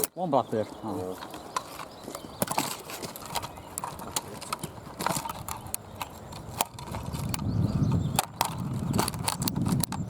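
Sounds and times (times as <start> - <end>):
twigs and leaves crackling: 0.0 - 10.0.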